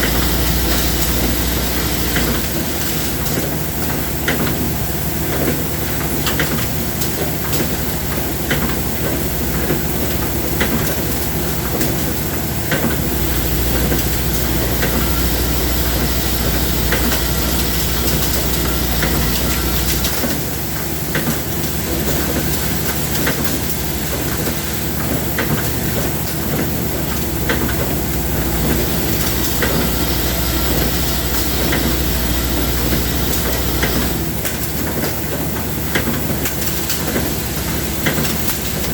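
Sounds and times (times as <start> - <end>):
machinery running: 0.0 - 38.9.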